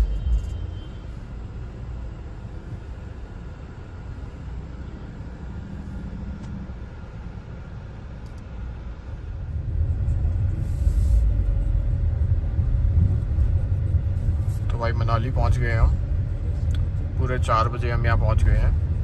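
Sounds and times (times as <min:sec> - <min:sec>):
car cabin road and engine rumble: 0:00.0 - 0:19.0.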